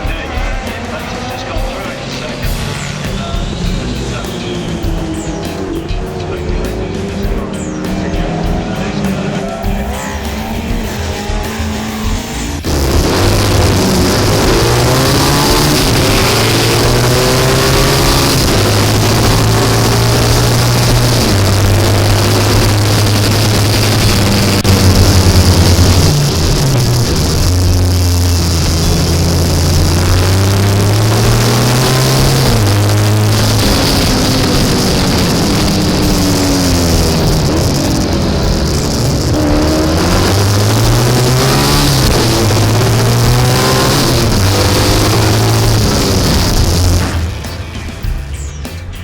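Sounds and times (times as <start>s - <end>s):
racing engine changing gears: 0.0s - 48.7s.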